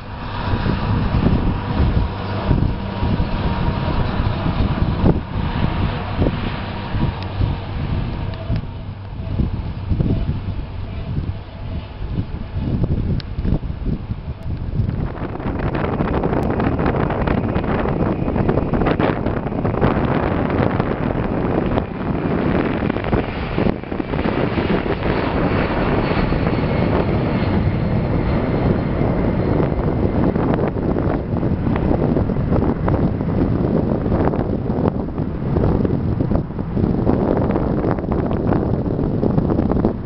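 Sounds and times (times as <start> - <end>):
jet engines at takeoff thrust: 0.0 - 40.0.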